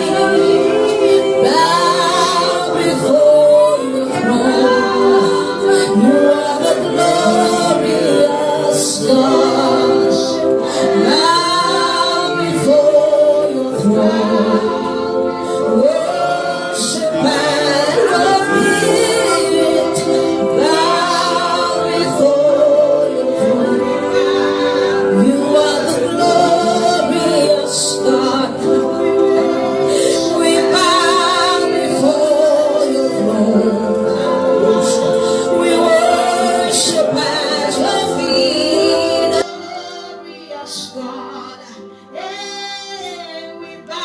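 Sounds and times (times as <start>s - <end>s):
held chords: 0.0s - 44.0s
voices singing gospel song: 0.0s - 44.0s.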